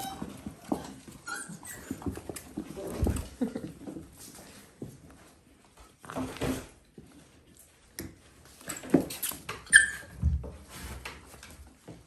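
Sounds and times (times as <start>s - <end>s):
puppies scuffling and playing: 0.0s - 12.0s.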